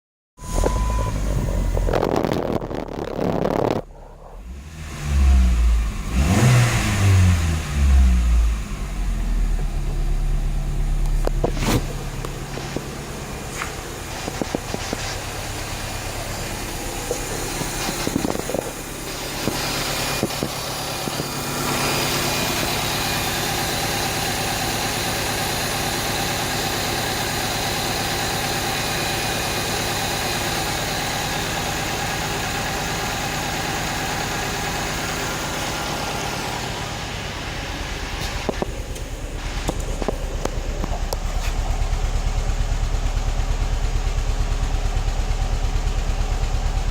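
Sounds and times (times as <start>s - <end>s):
car engine idling: 0.5s - 46.9s.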